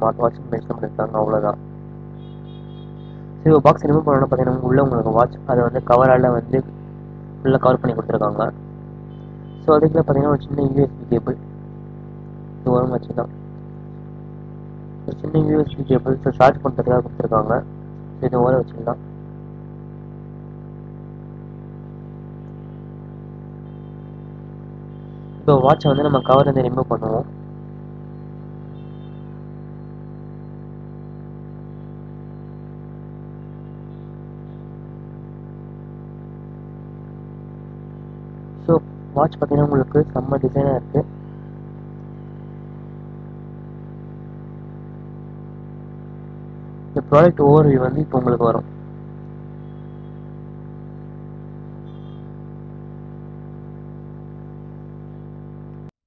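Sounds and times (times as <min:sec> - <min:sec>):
steady electrical hum: 0:00.0 - 0:55.9.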